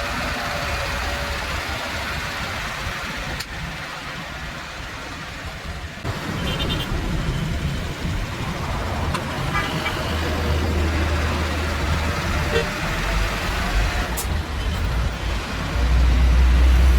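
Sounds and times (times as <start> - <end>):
truck engine rumbling: 0.0 - 16.9.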